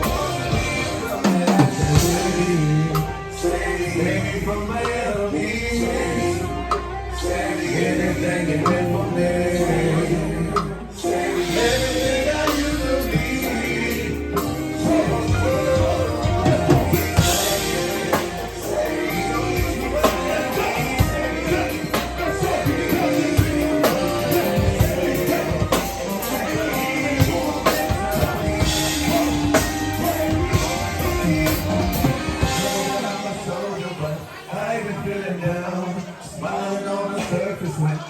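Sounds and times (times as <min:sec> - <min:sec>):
live rock song over loudspeakers: 0:00.0 - 0:38.0.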